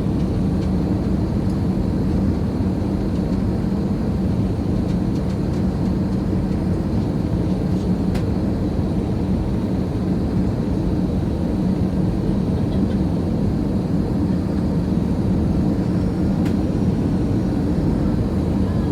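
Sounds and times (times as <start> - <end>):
airplane drone in flight: 0.0 - 18.9.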